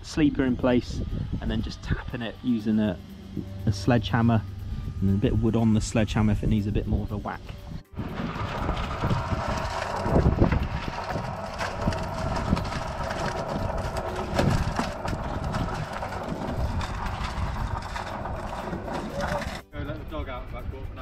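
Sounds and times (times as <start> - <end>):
cement mixer running: 0.0 - 19.7.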